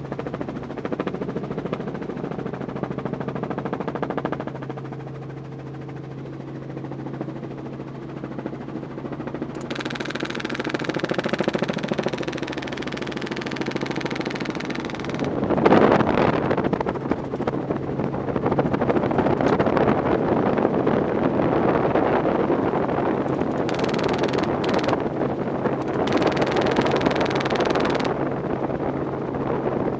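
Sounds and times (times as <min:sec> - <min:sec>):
helicopter engine and rotor drone: 0:00.0 - 0:29.9
wind rush on microphone: 0:00.0 - 0:29.9.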